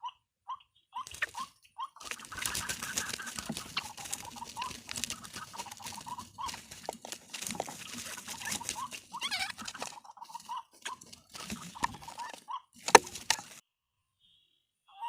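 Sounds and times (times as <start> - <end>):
soft clucking calls: 0.0 - 13.6
rustling in undergrowth: 1.0 - 13.6.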